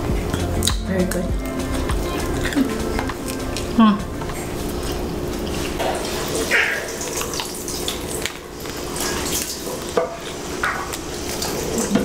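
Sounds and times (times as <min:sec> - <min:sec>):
nori crackling as it is chewed: 0:00.2 - 0:12.0.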